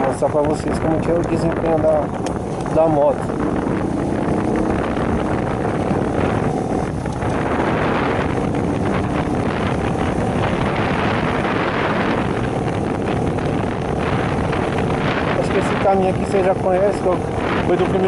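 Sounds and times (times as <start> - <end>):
small motorcycle engine running: 0.0 - 18.0
wind buffeting microphone: 0.0 - 18.0.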